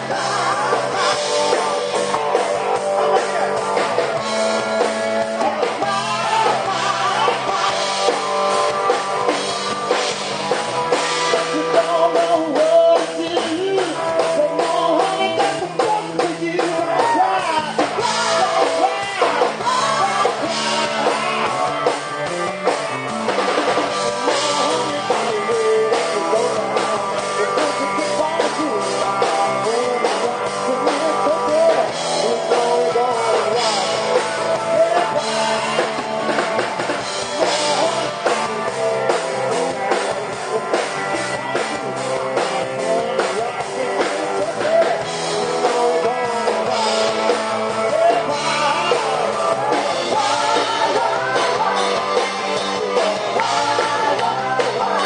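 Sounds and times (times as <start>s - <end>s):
man singing: 0.0s - 22.8s, 23.5s - 55.0s
bass guitar: 0.0s - 55.0s
drum kit: 0.0s - 55.0s
electric guitar: 0.0s - 55.0s.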